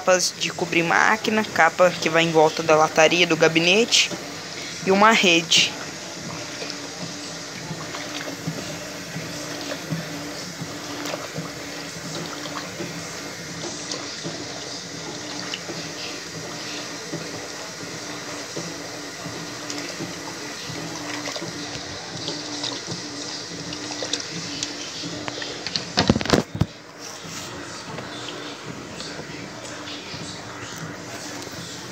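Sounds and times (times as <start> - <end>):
pulsing motor hum: 0.0 - 31.9
washing machine water filling: 0.0 - 31.9
water splashing and sloshing: 0.4 - 31.9.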